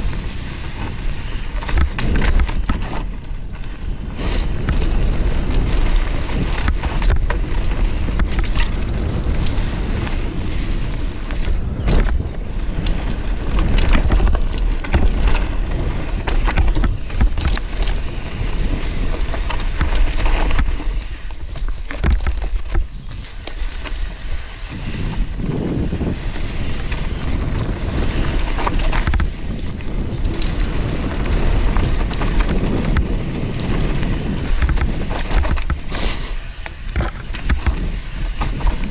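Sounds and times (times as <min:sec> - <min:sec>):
bike knocks and rattles: 0:00.0 - 0:38.9
tyre rumble: 0:00.0 - 0:38.9
wind rushing over microphone: 0:00.0 - 0:38.9.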